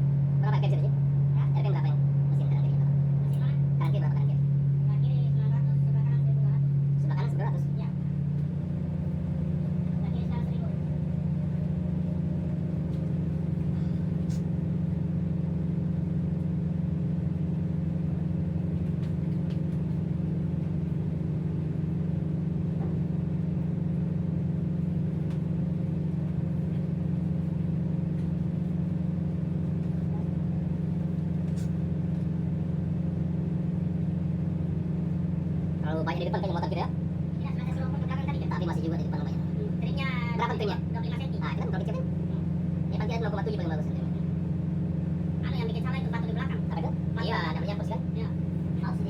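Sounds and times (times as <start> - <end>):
diesel engines humming: 0.0 - 49.0.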